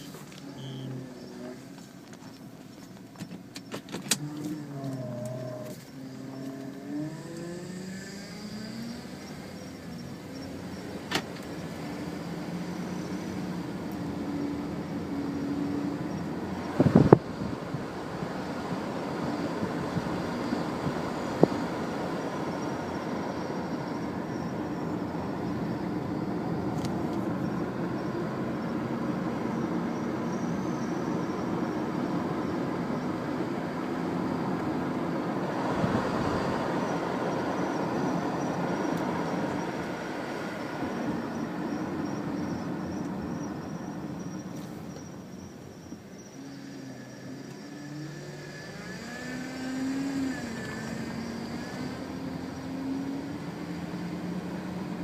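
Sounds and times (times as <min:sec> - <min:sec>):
car engine running: 0:00.0 - 0:49.0.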